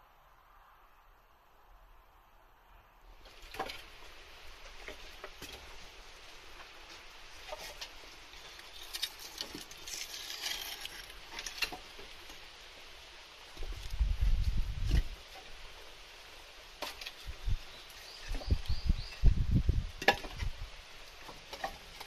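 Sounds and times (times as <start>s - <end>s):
kiln fire rushing and crackling: 3.1s - 22.0s.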